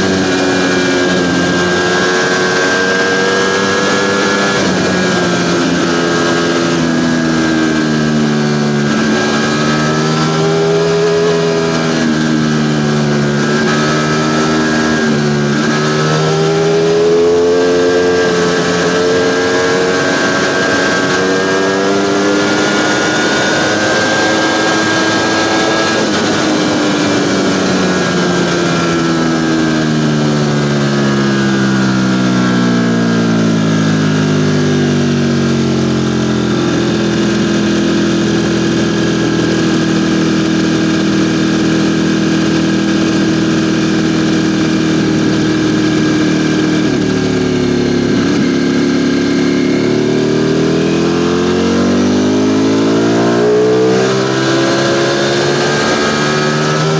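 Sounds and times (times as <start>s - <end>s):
motorcycle engine while riding: 0.0s - 56.9s.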